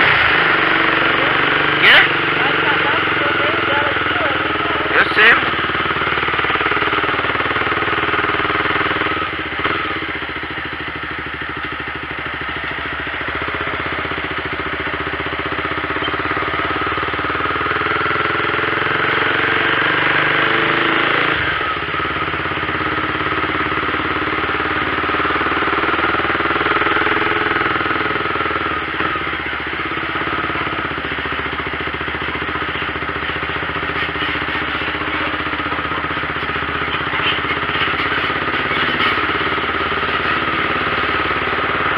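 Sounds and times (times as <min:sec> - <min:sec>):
diesel truck engine rumbling: 0:00.0 - 0:41.9.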